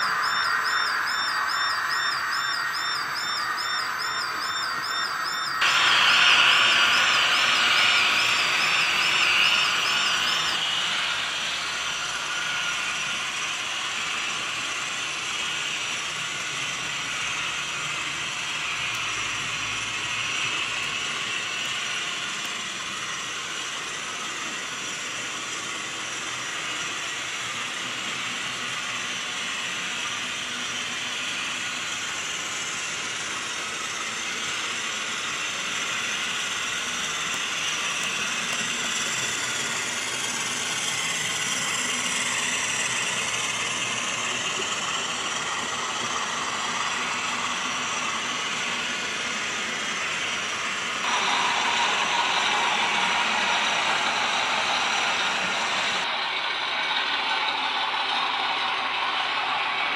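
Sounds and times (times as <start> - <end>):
model train motors whirring: 0.0 - 59.9
wheels running on track: 0.0 - 59.9.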